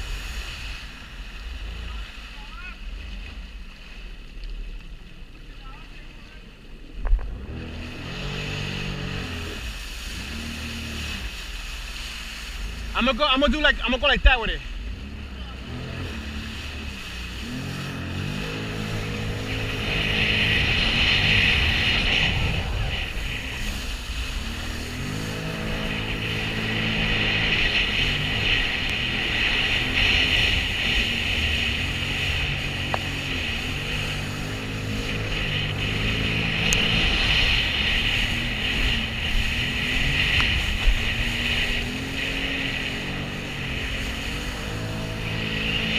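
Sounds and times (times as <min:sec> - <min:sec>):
jet ski engine: 0:00.0 - 0:45.9
rushing water and spray: 0:00.0 - 0:45.9.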